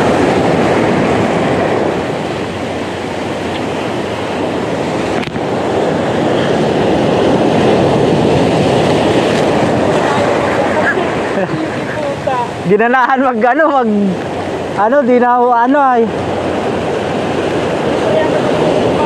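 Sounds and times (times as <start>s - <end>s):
surf breaking over rocks: 0.0s - 19.0s.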